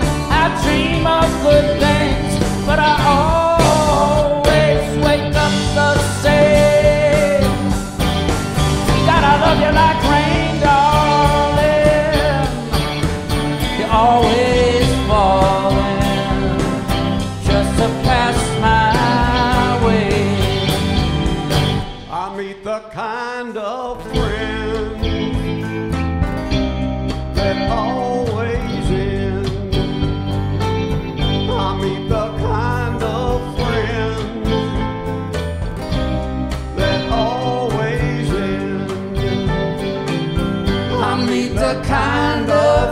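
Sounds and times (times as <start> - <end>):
drum kit with cymbals: 0.0 - 22.3, 24.0 - 42.9
bending lead guitar melody: 0.0 - 22.4, 23.9 - 42.9
rock band playing: 0.0 - 22.4, 24.0 - 42.9.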